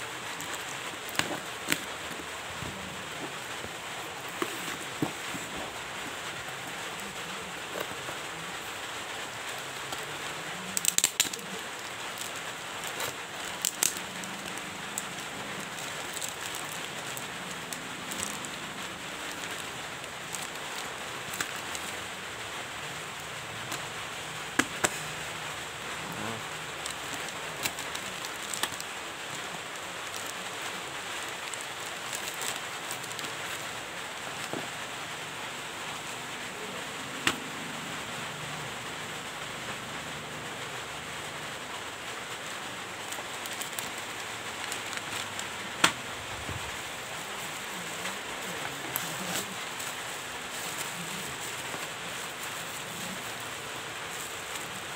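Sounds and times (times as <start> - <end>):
plastic and cardboard crinkling: 0.0 - 38.6, 41.2 - 54.9
steady hiss: 0.0 - 54.9.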